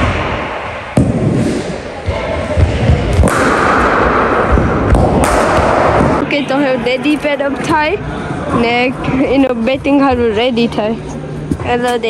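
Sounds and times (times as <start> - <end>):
loud rumbling noise: 0.0 - 12.0.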